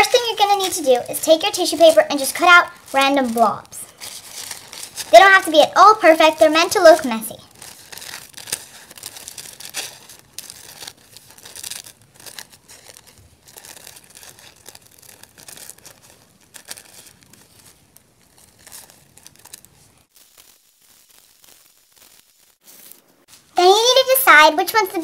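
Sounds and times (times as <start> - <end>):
scissors snipping paper: 0.0 - 23.0
paper rustling and crinkling: 0.0 - 23.6.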